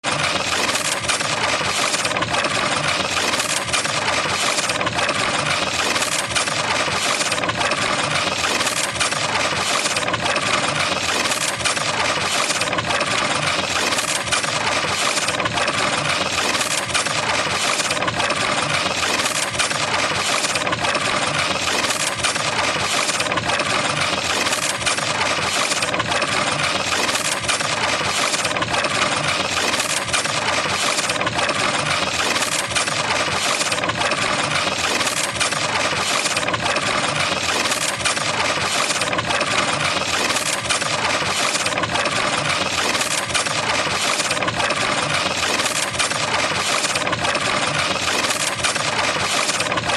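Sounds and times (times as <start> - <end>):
harsh distorted noise: 0.0 - 49.9.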